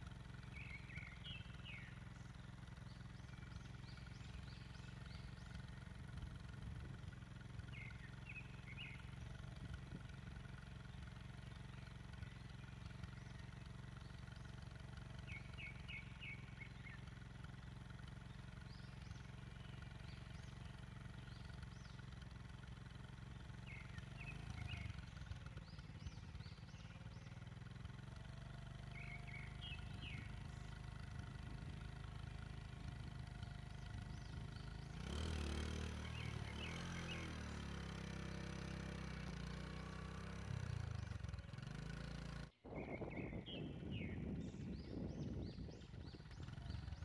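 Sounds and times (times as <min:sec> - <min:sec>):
small birds chirping: 0:00.0 - 0:47.0
vehicle engine idling: 0:00.0 - 0:47.0.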